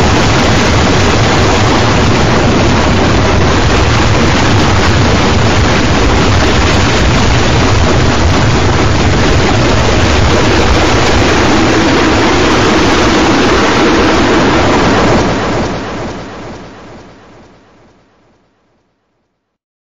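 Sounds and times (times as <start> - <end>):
harsh noise music: 0.0 - 16.3.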